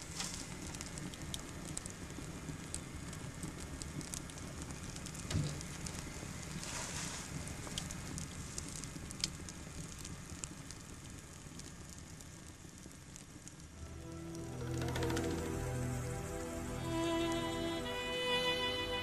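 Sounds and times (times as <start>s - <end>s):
crackling hiss: 0.0s - 19.0s.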